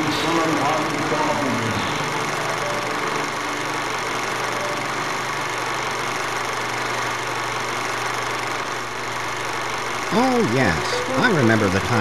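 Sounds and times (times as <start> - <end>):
low hum: 0.0 - 12.0
whirring hiss: 0.0 - 12.0.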